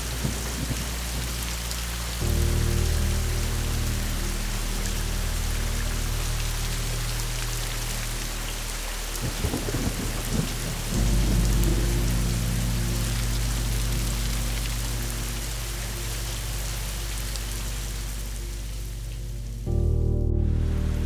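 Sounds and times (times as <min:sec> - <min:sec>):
thunder crackle: 0:00.0 - 0:18.8
low thunder rumble: 0:00.0 - 0:21.0
soft music bed: 0:00.0 - 0:21.0
steady rain: 0:00.0 - 0:21.0.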